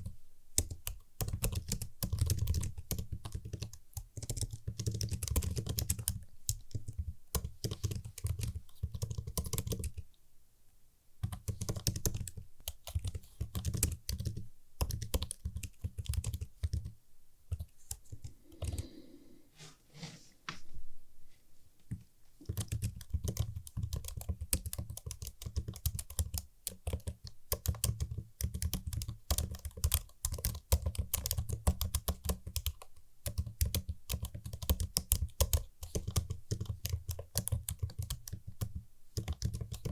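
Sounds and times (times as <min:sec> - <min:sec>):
typing on computer keyboard: 0:00.0 - 0:10.0, 0:11.2 - 0:18.8, 0:21.9 - 0:39.9.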